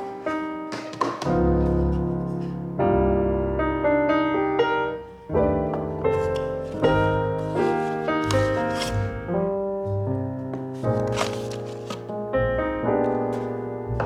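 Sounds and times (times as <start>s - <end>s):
mellow piano chords: 0.0s - 14.0s.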